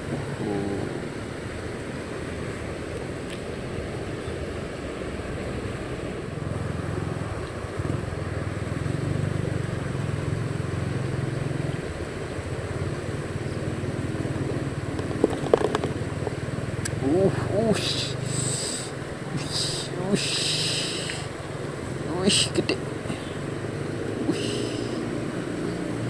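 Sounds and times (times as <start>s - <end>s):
passing road traffic rumble: 0.0s - 26.0s
wind hiss: 0.0s - 26.0s.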